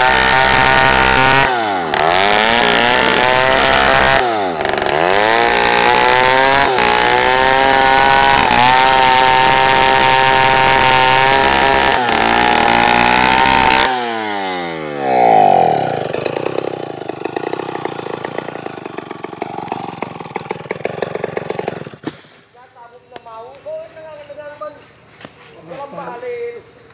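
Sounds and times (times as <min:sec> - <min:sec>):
chainsaw idling: 0:00.0 - 0:22.3
chainsaw cutting log: 0:00.0 - 0:22.4.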